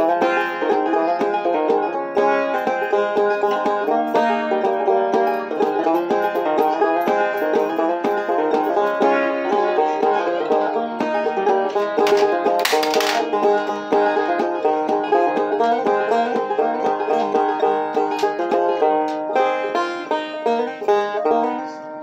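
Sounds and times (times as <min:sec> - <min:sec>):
banjo plucked notes: 0:00.0 - 0:22.0.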